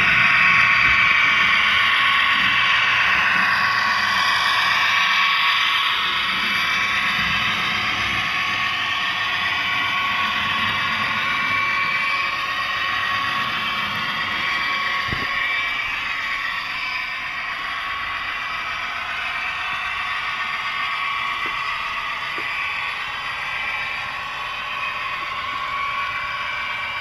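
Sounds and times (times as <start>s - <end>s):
diesel engine sound effect: 0.0s - 27.0s
wheels rolling on rails: 0.0s - 27.0s.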